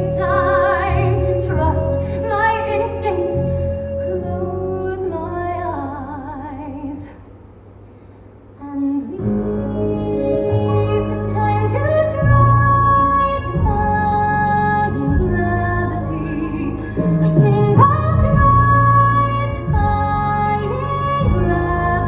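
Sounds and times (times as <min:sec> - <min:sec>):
woman singing: 0:00.0 - 0:07.2, 0:08.6 - 0:22.0.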